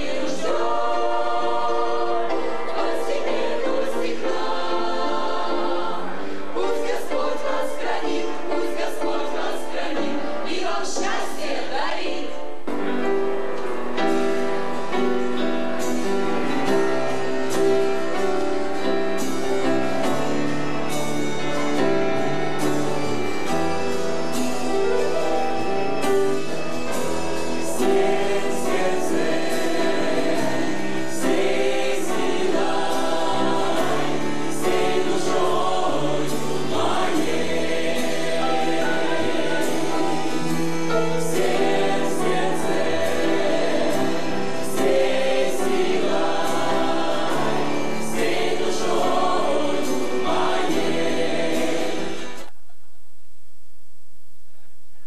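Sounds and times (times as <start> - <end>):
choir singing gospel: 0.0 - 52.5
instrumental accompaniment with bass: 0.0 - 52.5.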